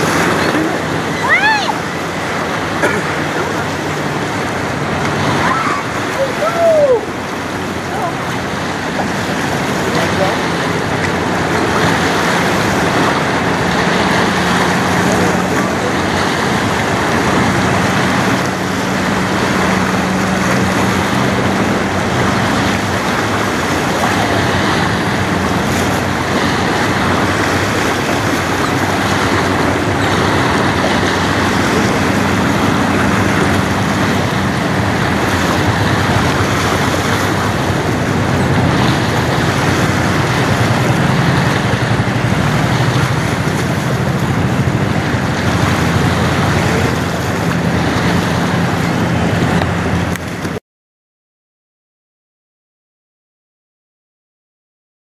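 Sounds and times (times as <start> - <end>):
low ship machinery hum: 0.0 - 50.6
rushing water: 0.0 - 50.6
wind: 0.0 - 50.6.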